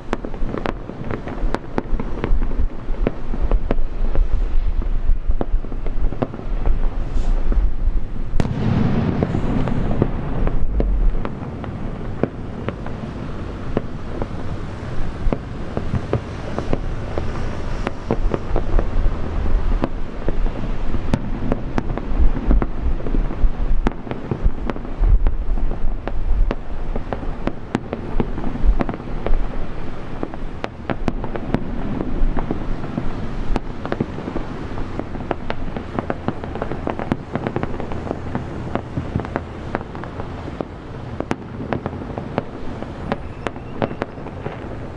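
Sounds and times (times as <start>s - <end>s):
fireworks booming: 0.0s - 44.9s
fireworks crackling: 0.0s - 44.9s.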